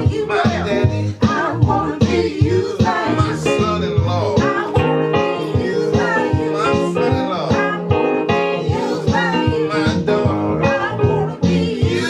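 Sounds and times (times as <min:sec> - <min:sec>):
bass and drums beat: 0:00.0 - 0:12.0
music with singing: 0:00.0 - 0:12.0.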